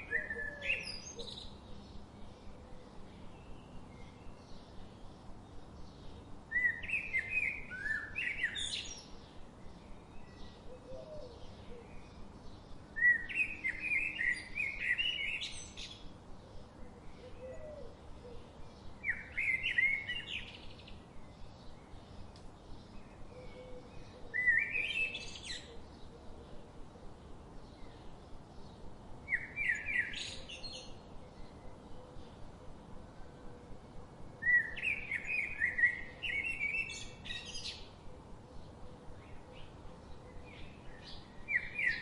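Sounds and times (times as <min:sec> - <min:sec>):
songbird singing high chirps: 0:00.0 - 0:42.0
steady background hiss: 0:00.0 - 0:42.0.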